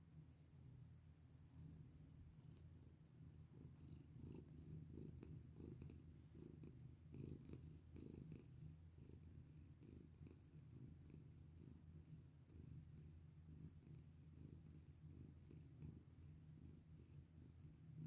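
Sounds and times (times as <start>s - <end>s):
cat purring: 1.2s - 18.0s.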